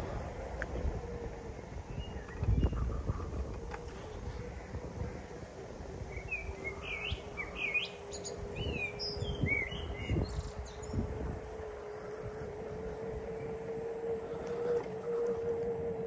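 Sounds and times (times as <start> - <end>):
steady low hum: 0.0 - 16.0
songbird chirping: 0.8 - 16.0.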